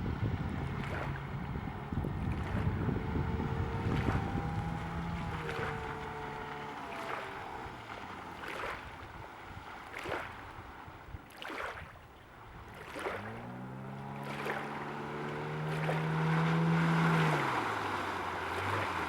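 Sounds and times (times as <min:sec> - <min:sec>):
outboard motor revving and droning: 0:00.0 - 0:19.0
water splashing against boat hull: 0:00.0 - 0:19.0.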